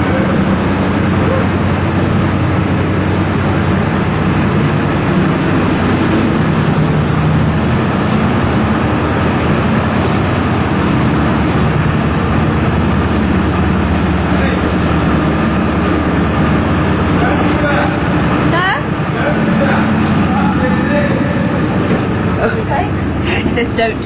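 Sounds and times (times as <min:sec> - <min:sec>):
boat diesel engine drone: 0:00.0 - 0:24.0.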